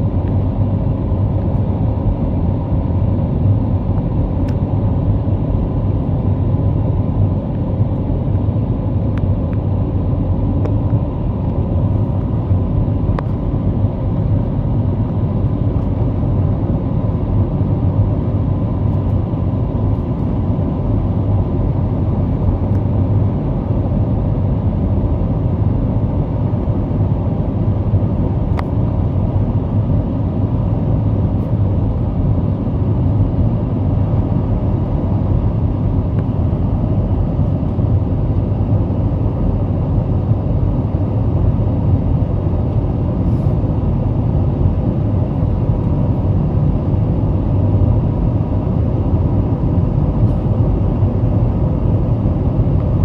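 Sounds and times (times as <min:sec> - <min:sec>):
jet engine rumble in cabin: 0:00.0 - 0:53.0.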